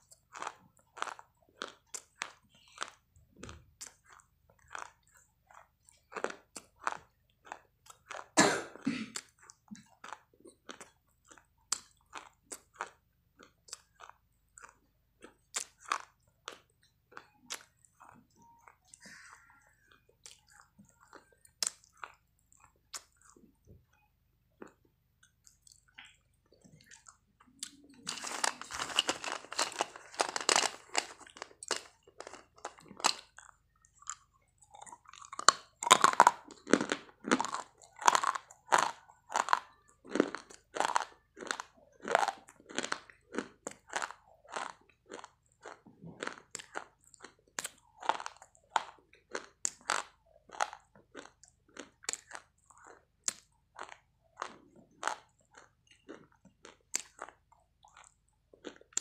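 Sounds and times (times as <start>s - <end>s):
crunching and chewing: 0.0s - 8.4s, 9.1s - 59.0s.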